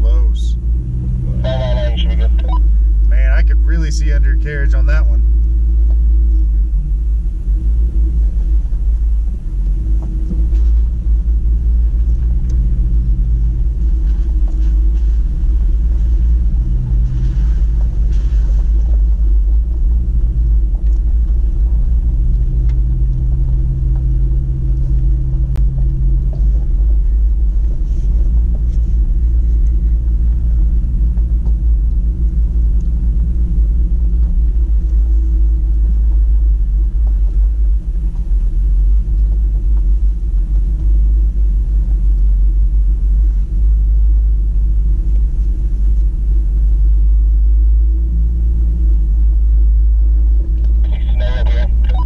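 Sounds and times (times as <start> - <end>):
engine rumble inside vehicle: 0.0 - 52.0.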